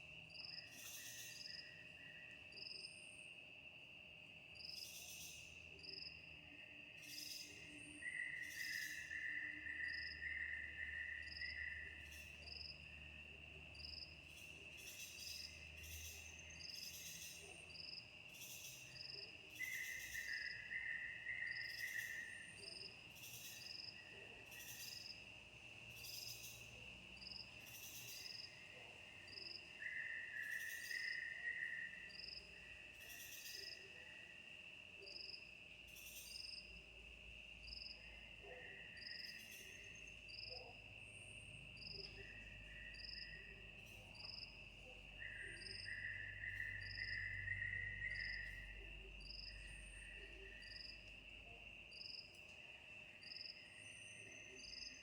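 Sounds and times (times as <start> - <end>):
insect call: 0.0 - 55.0
insects high-pitched drone: 4.6 - 55.0.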